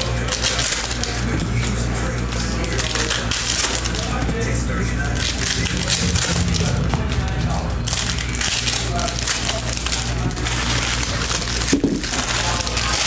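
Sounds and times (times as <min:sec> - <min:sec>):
foil wrappers tearing and crinkling: 0:00.0 - 0:13.0.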